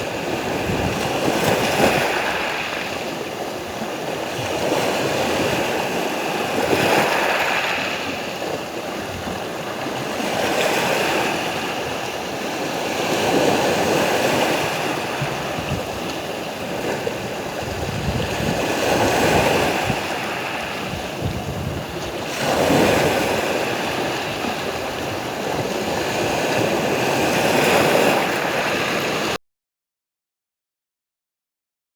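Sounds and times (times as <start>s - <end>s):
sea waves breaking: 0.0s - 29.4s.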